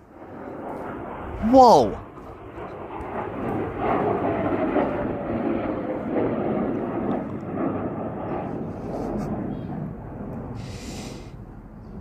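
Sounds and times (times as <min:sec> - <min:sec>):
jet passing low overhead: 0:00.0 - 0:12.0.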